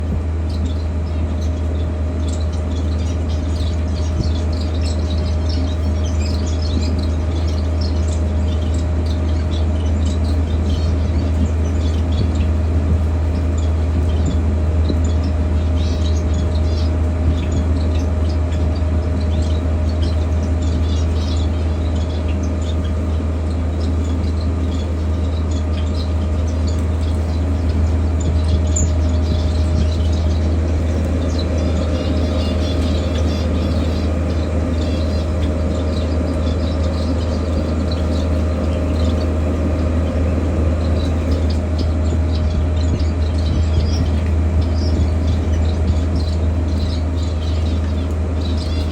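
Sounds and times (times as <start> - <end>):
birds chirping: 0.0 - 48.9
loud steady low hum: 0.0 - 48.9.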